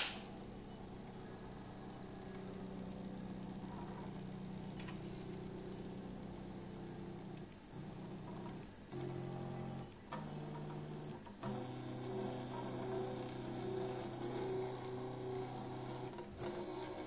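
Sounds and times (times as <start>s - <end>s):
stepper motor humming: 0.0s - 17.0s.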